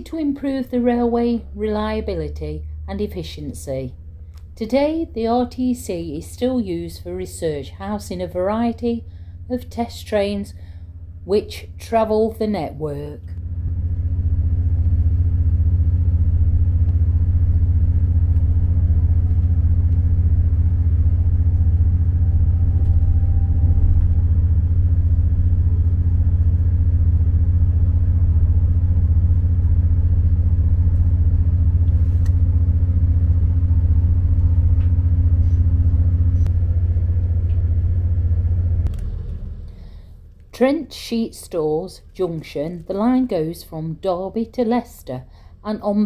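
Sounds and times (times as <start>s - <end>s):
fainter higher hum: 0.0s - 46.0s
train running low drone: 0.0s - 46.0s.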